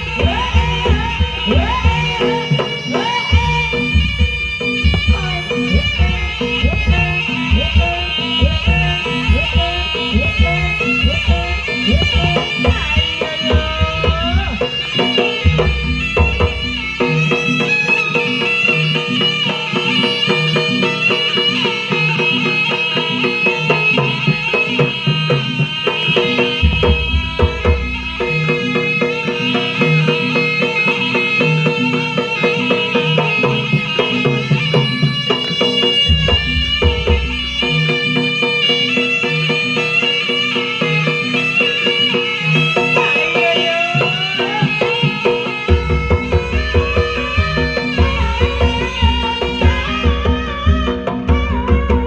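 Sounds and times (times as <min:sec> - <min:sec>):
gamelan and drum rhythms: 0:00.0 - 0:52.0
shrill reed pipe melody: 0:00.0 - 0:52.0.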